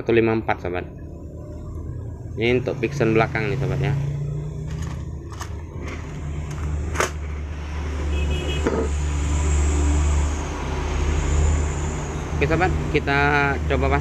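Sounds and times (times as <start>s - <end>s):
engine running: 0.6s - 14.0s.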